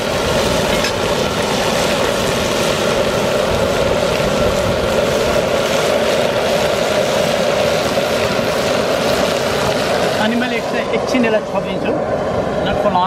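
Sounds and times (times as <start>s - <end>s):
propane burner rushing: 0.0s - 13.0s.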